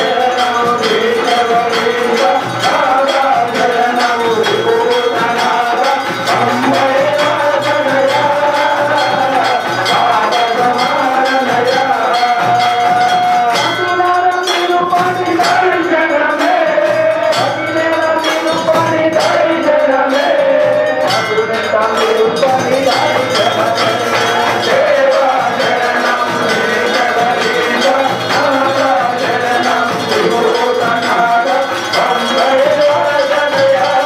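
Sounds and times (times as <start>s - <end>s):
temple bells ringing rapidly: 0.0s - 34.0s.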